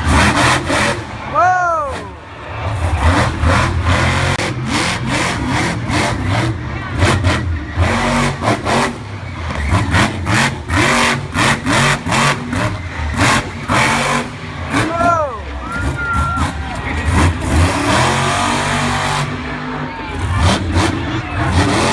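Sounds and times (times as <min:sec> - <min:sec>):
truck engine revving hard: 0:00.0 - 0:21.9.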